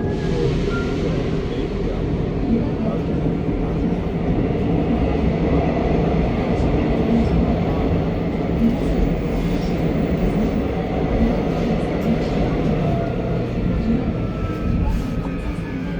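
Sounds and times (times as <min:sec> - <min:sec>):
subway train rumble: 0:00.0 - 0:15.9.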